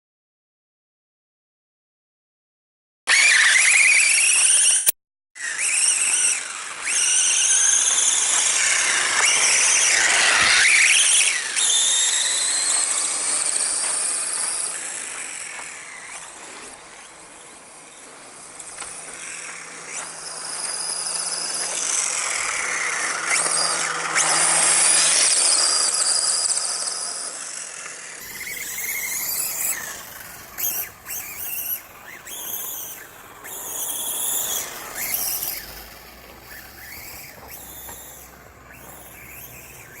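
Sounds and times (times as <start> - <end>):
electric motor whining: 3.1 - 40.0.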